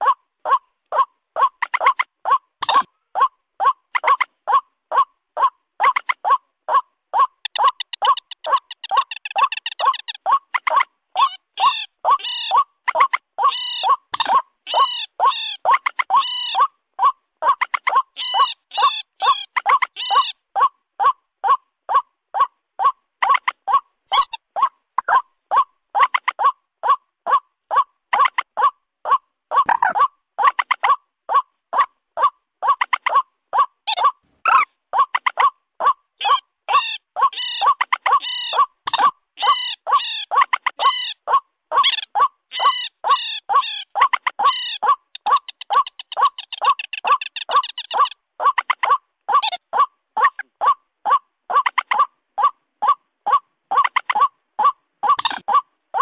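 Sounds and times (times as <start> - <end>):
short rapid bird calls: 0.0 - 56.0.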